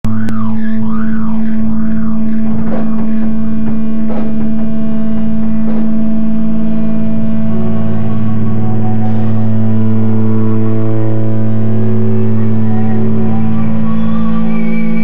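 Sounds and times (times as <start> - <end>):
electric guitar and bass drone: 0.0 - 15.0.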